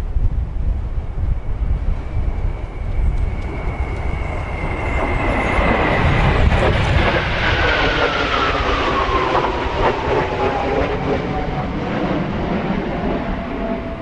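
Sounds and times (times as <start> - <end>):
jet engine whine: 0.0 - 14.0
jet roar: 0.0 - 14.0
wind on microphone: 0.0 - 14.0.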